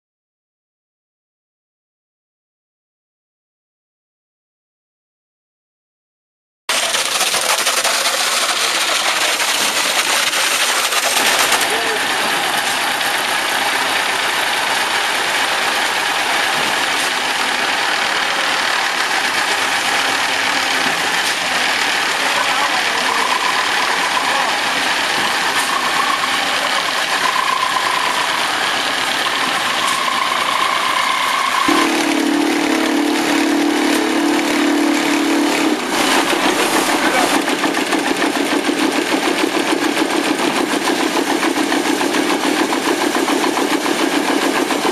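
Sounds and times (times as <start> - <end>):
machinery noise: 6.7 - 44.9.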